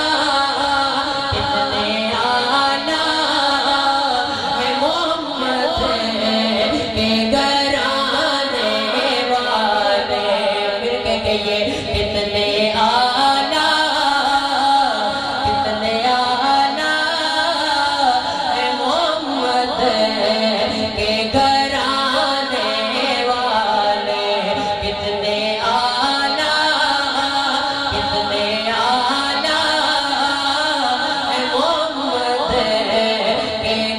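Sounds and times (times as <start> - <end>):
man singing into a microphone: 0.0 - 33.9.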